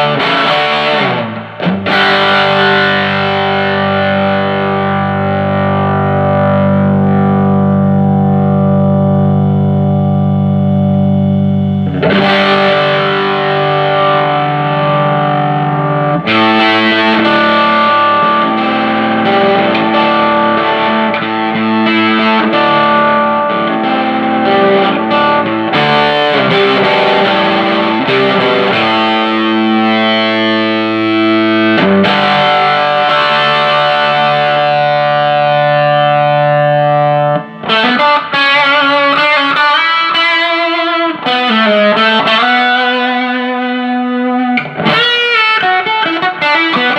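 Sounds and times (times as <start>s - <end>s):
distorted electric guitar: 0.0s - 46.9s.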